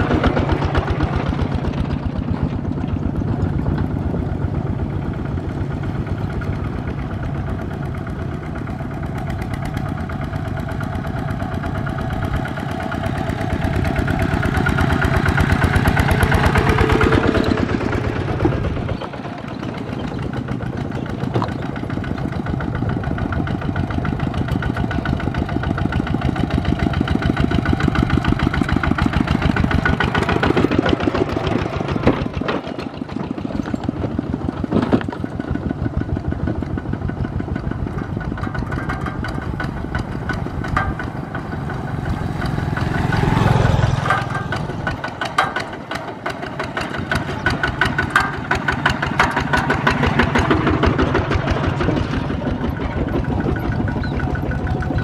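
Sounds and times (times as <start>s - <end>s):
diesel tractor engines chugging: 0.0s - 55.0s.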